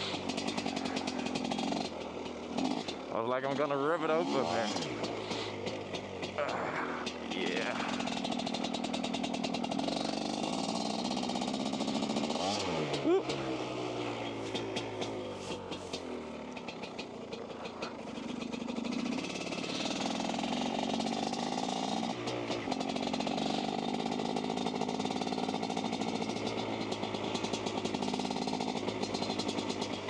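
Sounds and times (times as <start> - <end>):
dirtbike engine revving: 0.0 - 30.0.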